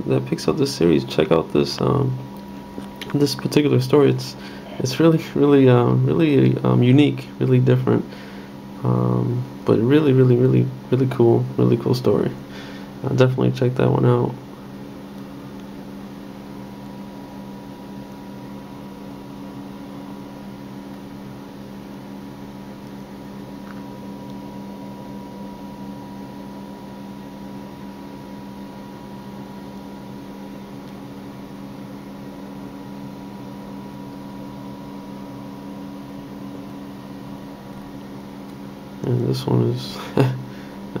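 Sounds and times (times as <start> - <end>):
steady machine hum: 0.0 - 41.0.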